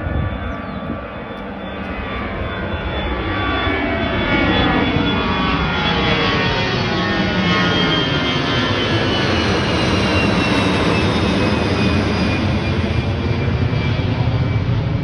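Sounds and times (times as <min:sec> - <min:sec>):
high engine whine: 0:00.0 - 0:15.0
jet engine rumble: 0:00.0 - 0:15.0.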